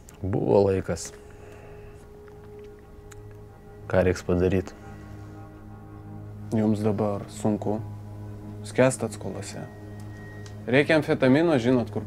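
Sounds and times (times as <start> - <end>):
low steady hum: 0.0 - 12.0
held film score note: 1.3 - 12.0.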